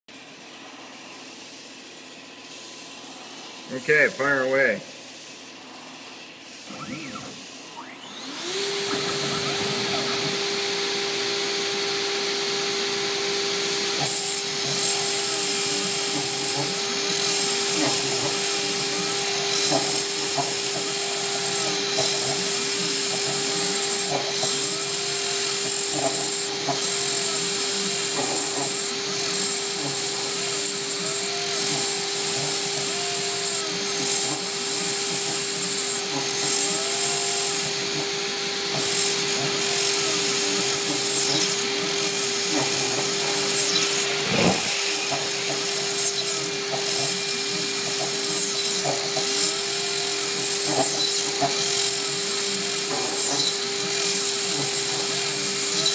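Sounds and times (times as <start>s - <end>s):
cnc router milling whine: 0.1s - 55.9s.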